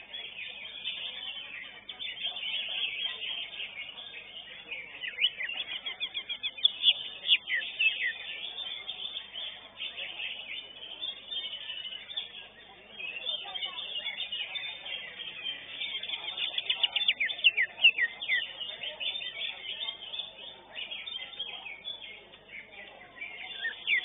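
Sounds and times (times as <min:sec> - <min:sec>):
bird singing chirps and trills: 0:00.0 - 0:24.0.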